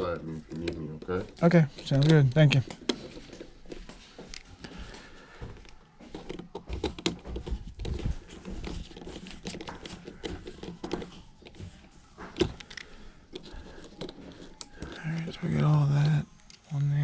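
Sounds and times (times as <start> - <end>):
rustling of hands with wires: 0.0 - 17.0.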